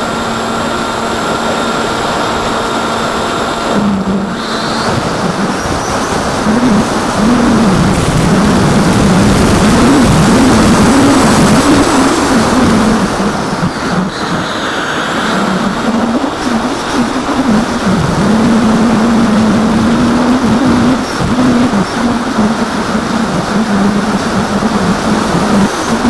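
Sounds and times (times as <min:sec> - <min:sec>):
electric motor and propeller droning: 0:00.0 - 0:26.0
wind rush: 0:00.0 - 0:26.0.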